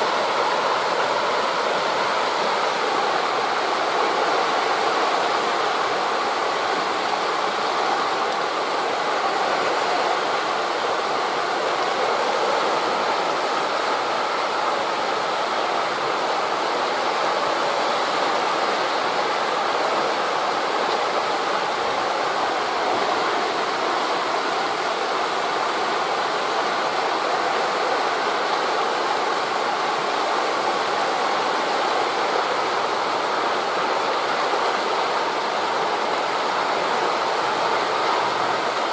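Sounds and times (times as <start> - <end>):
waves breaking on a beach: 0.0 - 38.9
wind through forest leaves: 0.0 - 38.9.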